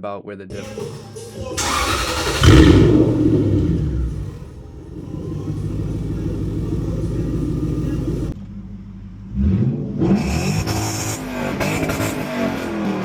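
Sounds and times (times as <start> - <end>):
car engine idling and revving: 0.5 - 13.0.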